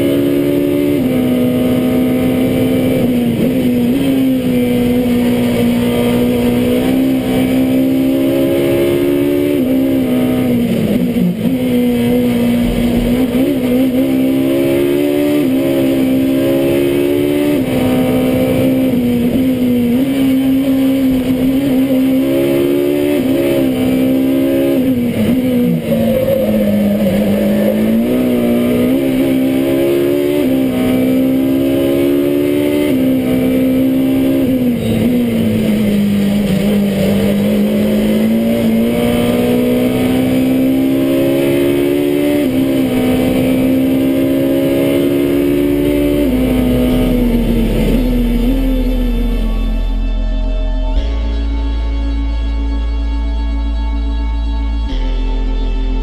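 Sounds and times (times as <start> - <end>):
racing engine revving: 0.0 - 51.3.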